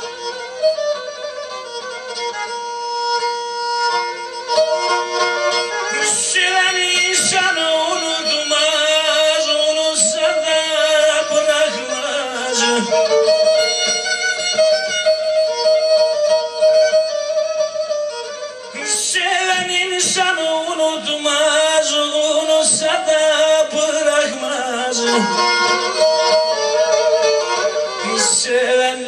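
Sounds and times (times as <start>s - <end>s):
bowed string folk melody: 0.0s - 29.0s
held accompaniment: 0.0s - 29.0s.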